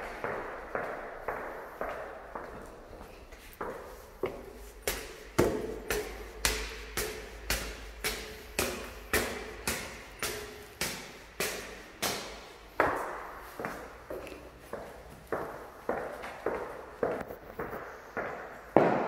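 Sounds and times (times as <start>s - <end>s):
footsteps on tiled stairs: 0.0s - 19.0s.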